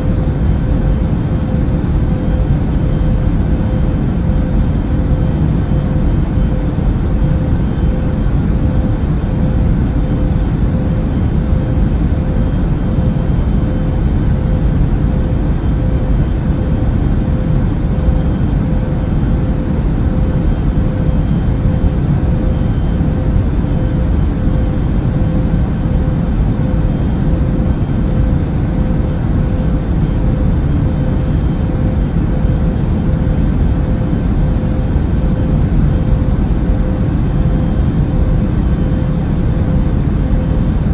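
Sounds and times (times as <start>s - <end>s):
airliner cabin rumble: 0.0s - 40.9s.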